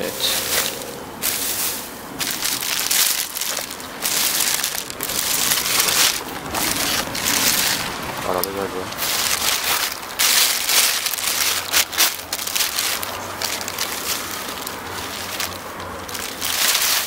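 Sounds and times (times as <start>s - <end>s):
plastic bag crinkling: 0.2s - 17.0s.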